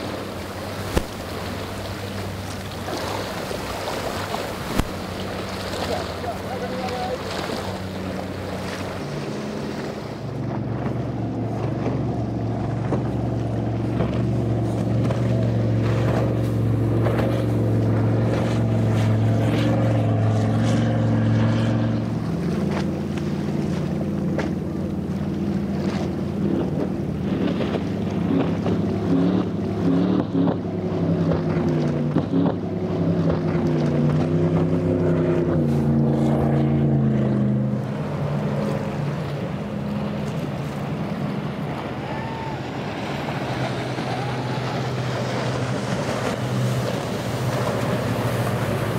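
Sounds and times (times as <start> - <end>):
motorboat engine droning: 0.0 - 48.9
water rushing: 0.0 - 48.9.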